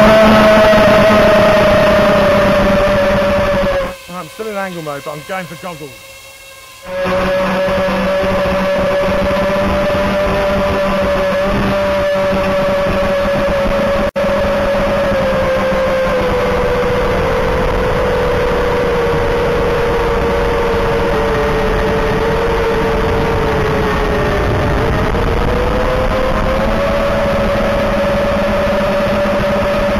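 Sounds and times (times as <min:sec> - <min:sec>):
quadcopter motors whining: 0:00.0 - 0:29.9.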